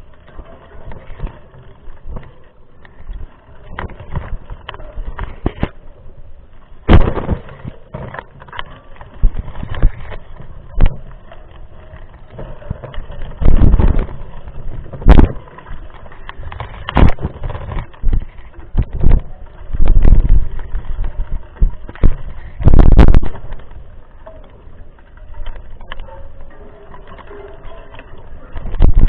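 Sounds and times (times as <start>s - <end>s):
mountain bike rattling on trail: 0.0s - 29.0s.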